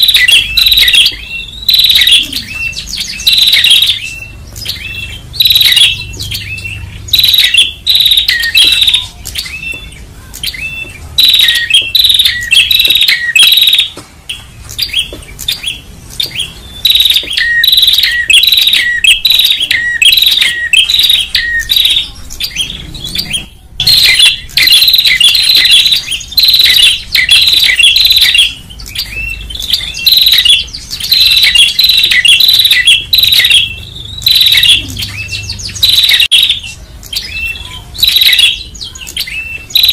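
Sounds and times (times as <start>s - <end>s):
birds chirping in rapid bursts: 0.0s - 39.9s.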